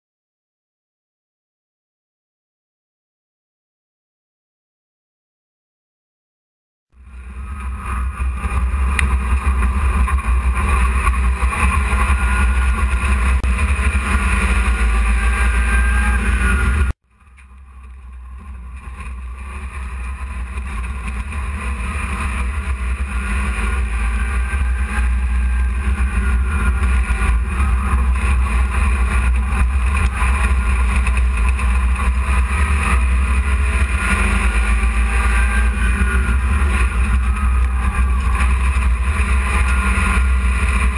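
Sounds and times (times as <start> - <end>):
truck engine drone: 7.0 - 40.9.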